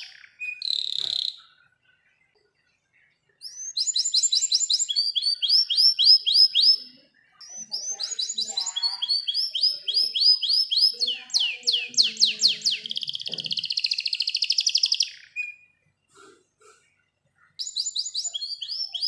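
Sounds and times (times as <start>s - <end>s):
canary singing: 0.0s - 16.2s, 17.1s - 19.0s.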